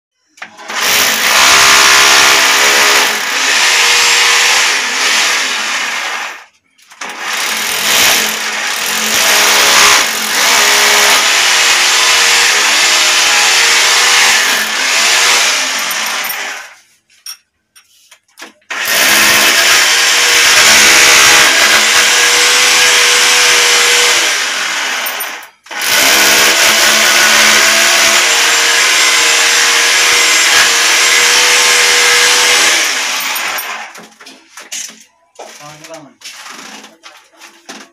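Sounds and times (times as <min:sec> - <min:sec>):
hammer drill boring into tile: 0:00.4 - 0:16.8, 0:18.7 - 0:34.1.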